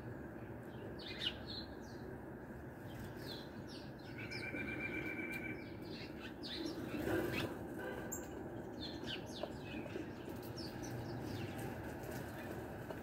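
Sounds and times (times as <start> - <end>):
sparrows chirping: 0.0 - 12.9
low background noise: 0.0 - 13.0.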